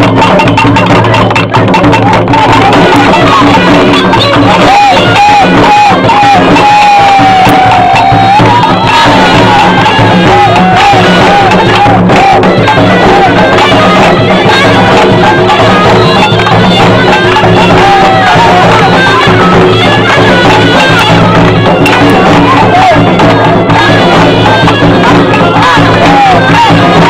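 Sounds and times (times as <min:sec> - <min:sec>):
crowd: 0:00.0 - 0:27.0
wind instrument melody: 0:00.0 - 0:27.0.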